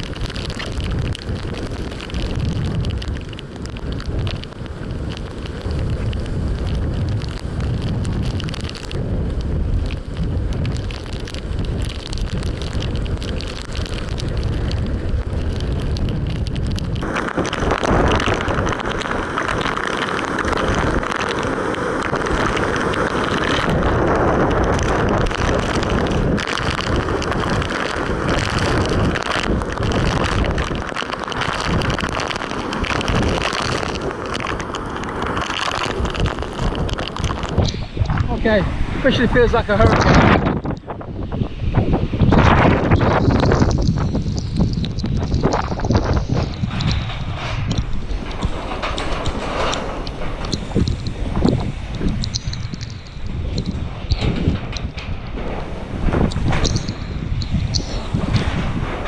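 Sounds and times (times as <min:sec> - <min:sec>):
rushing hiss of rain: 0:00.0 - 0:59.0
strong wind buffeting microphone: 0:00.0 - 0:59.0.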